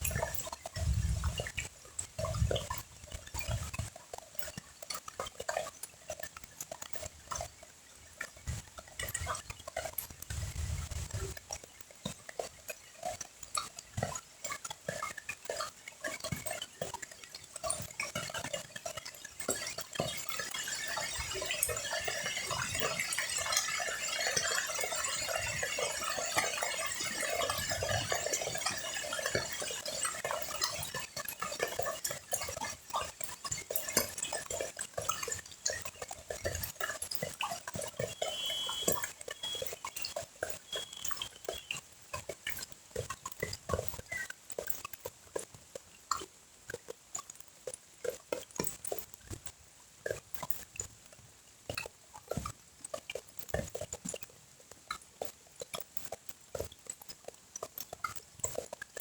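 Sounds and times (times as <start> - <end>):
rain on a pond: 0.0 - 59.0.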